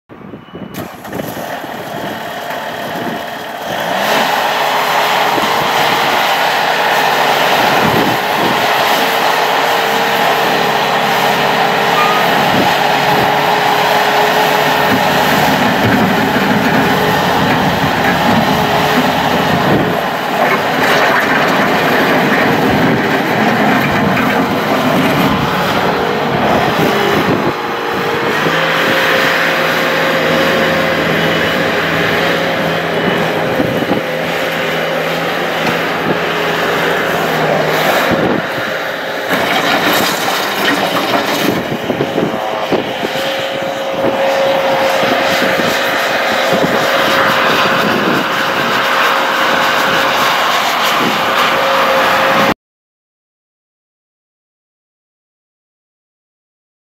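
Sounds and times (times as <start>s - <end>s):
diesel engine running hard: 0.2s - 52.6s
steady machine whine: 0.4s - 52.6s.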